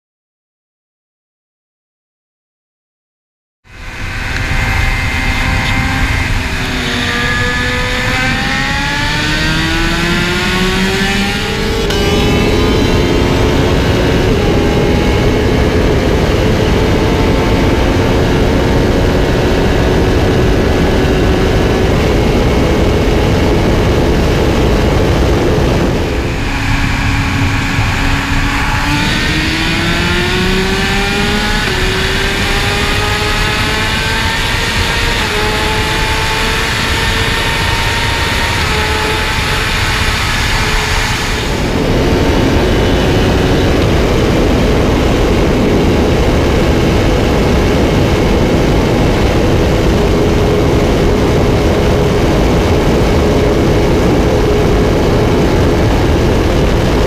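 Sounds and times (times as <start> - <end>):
motorcycle engine at full throttle: 3.6 - 57.0
sportbike engine accelerating: 3.7 - 57.0
wind rush: 3.7 - 57.0.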